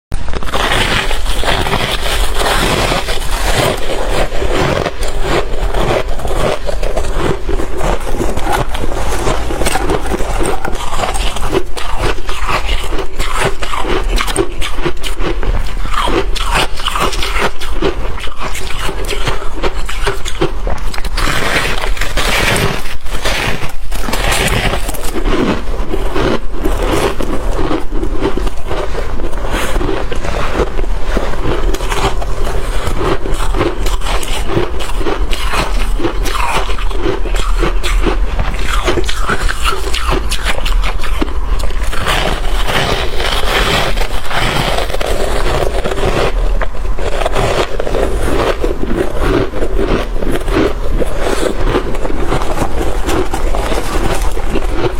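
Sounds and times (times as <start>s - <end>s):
person crunching ice: 0.2s - 54.9s.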